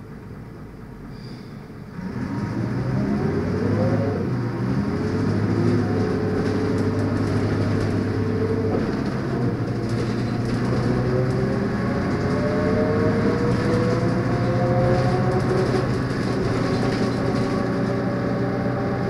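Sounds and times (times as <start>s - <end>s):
bus diesel engine pulling away: 0.0s - 19.0s.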